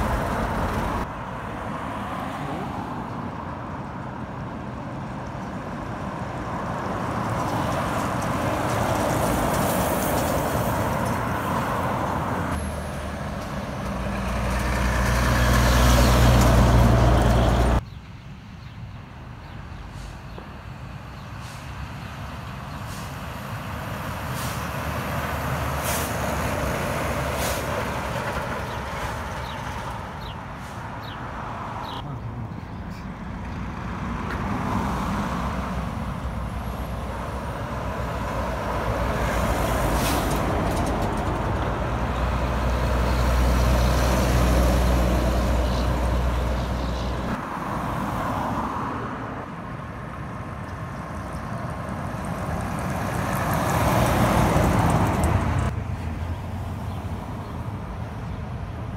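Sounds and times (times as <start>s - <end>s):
vehicles passing on highway: 0.0s - 58.9s.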